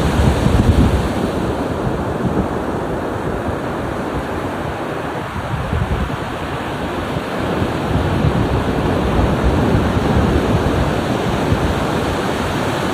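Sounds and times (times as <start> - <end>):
ocean surf: 0.0 - 12.9.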